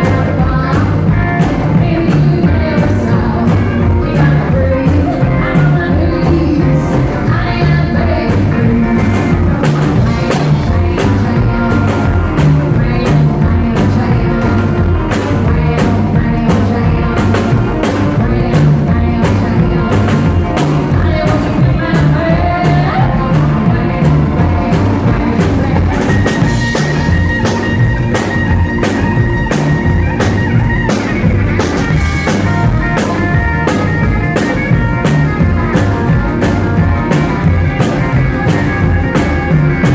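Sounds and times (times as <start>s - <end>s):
rockabilly band playing: 0.0s - 39.9s.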